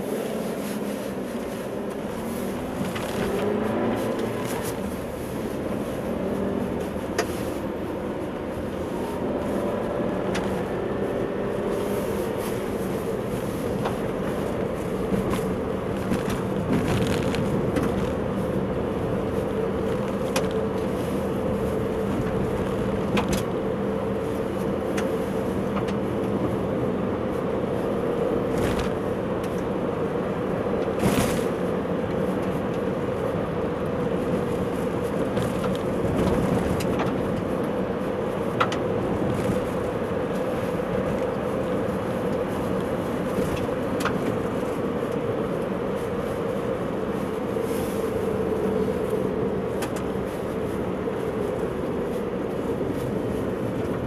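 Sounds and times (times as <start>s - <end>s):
tyre and engine noise: 0.0s - 54.0s.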